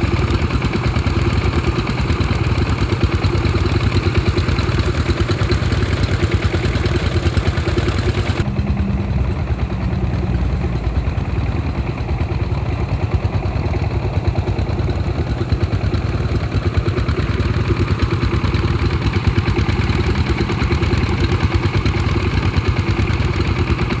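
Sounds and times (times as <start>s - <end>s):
diesel pump engines running: 0.0s - 24.0s.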